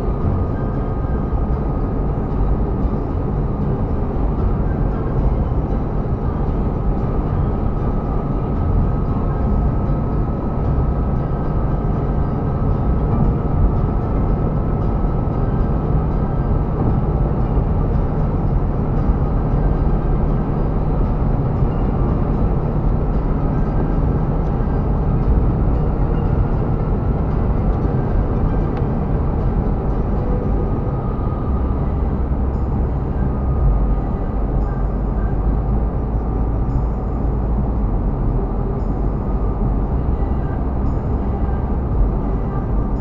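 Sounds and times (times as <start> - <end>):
car tyres and engine drone: 0.0 - 43.0
faint steady whine: 0.0 - 43.0.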